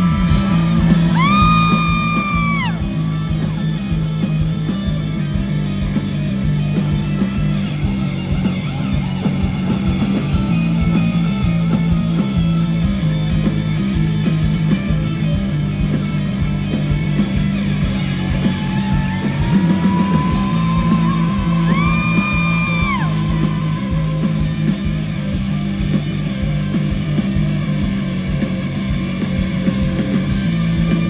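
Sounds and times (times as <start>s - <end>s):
live rock band playing: 0.0s - 31.0s
repeating bass line: 0.0s - 31.0s.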